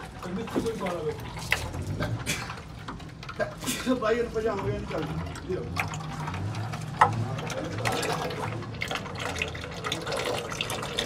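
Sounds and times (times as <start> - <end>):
oil dripping into metal tray: 0.0 - 11.0.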